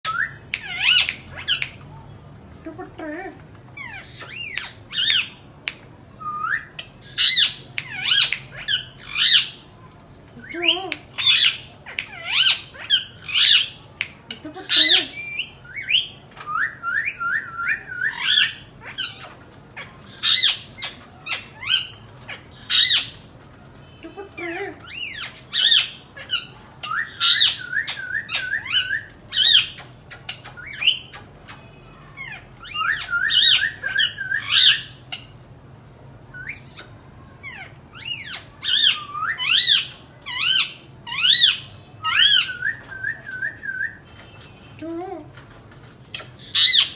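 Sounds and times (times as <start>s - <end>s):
parrots squawking: 0.1s - 1.8s, 3.8s - 5.5s, 6.4s - 9.6s, 10.6s - 35.4s, 36.3s - 44.7s, 45.8s - 46.9s
parrot chatter: 0.1s - 1.9s, 3.8s - 9.7s, 10.4s - 35.4s, 36.3s - 46.9s.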